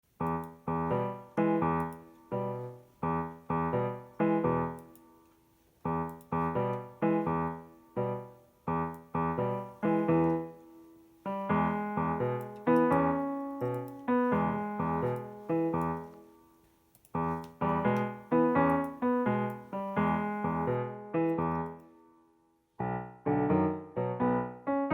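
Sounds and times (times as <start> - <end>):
gentle piano music: 0.0 - 24.9.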